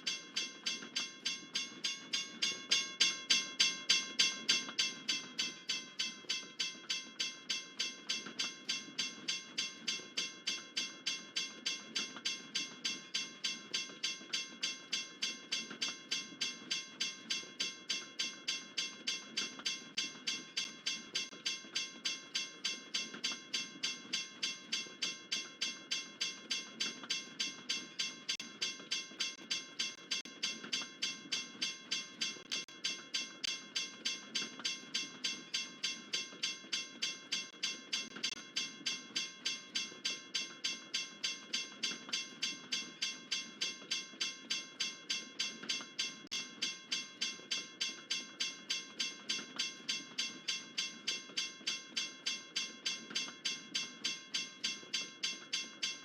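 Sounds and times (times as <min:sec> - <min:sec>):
railroad crossing bell ringing: 0:00.1 - 0:56.0.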